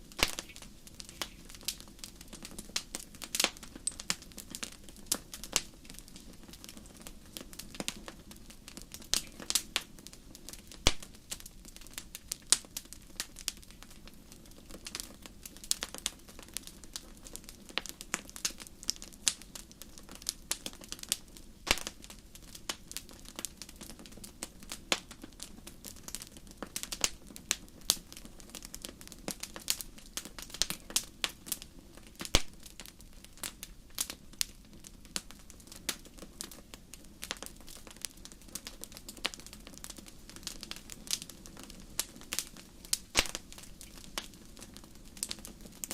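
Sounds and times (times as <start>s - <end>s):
faint low hiss: 0.0s - 45.9s
wood fire crackling and popping: 0.0s - 45.9s.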